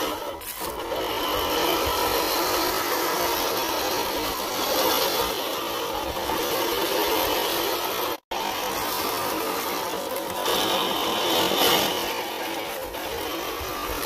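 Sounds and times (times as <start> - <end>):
electric motor whirring: 0.0 - 14.0.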